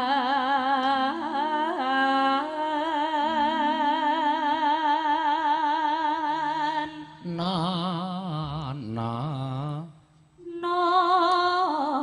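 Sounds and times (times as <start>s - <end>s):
woman singing with vibrato: 0.0s - 9.1s, 9.7s - 12.0s.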